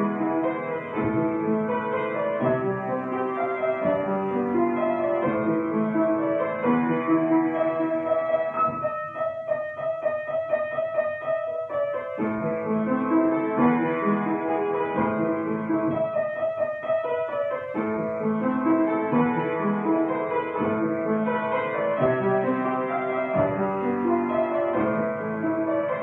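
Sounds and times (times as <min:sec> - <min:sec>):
upright piano playing: 0:00.0 - 0:26.0.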